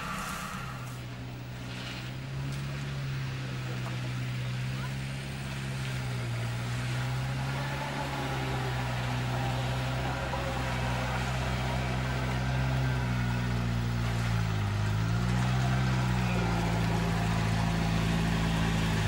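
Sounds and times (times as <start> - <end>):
off-road vehicle engine under load: 0.0 - 19.0
vehicle wading through water: 0.0 - 19.0.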